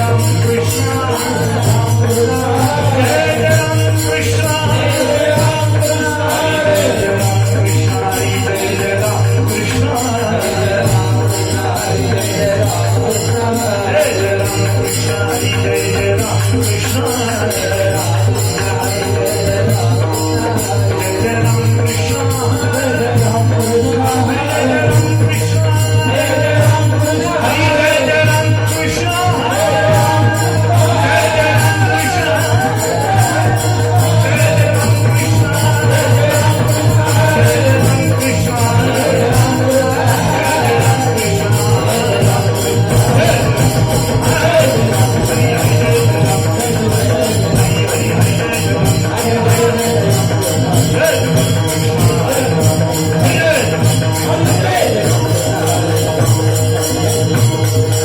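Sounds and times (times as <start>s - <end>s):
hand cymbals jingling: 0.0s - 58.0s.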